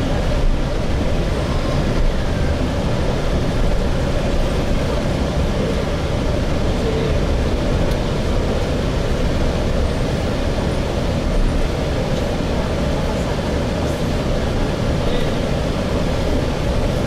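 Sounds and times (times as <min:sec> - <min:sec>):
bus engine rumble inside cabin: 0:00.0 - 0:17.0.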